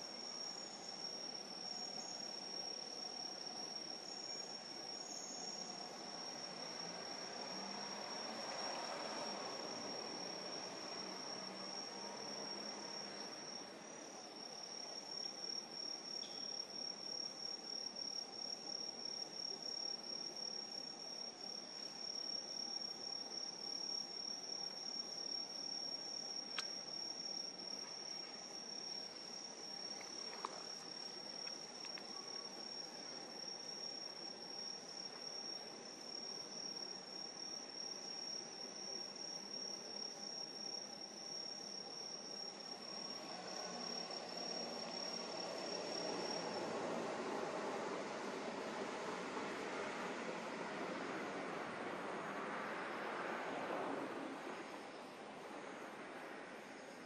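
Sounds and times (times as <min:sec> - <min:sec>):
high cricket trill: 0:00.0 - 0:57.0
lower cricket trill: 0:00.0 - 0:57.0.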